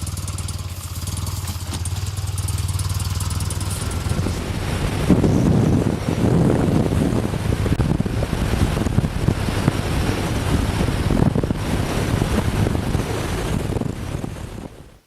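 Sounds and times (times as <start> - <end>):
wind buffeting a microphone: 1.0 - 15.0.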